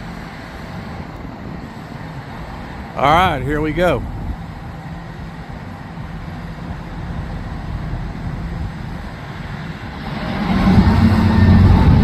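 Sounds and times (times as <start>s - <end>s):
diesel crane engine rumbling: 0.0s - 12.0s.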